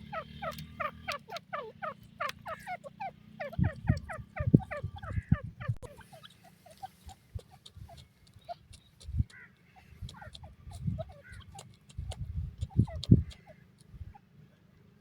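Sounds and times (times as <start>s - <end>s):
francolins calling: 0.0s - 14.3s.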